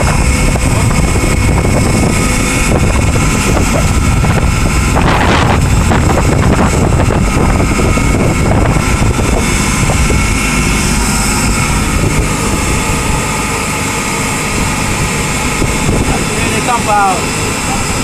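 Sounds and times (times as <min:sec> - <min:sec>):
industrial machinery running: 0:00.0 - 0:18.0.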